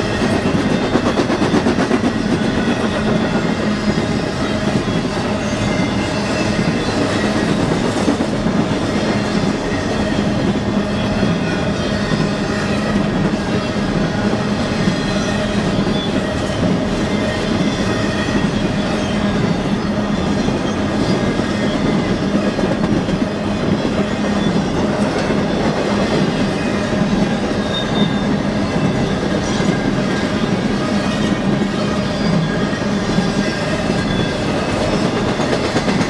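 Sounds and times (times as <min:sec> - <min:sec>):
freight train wheels clattering: 0:00.0 - 0:36.0.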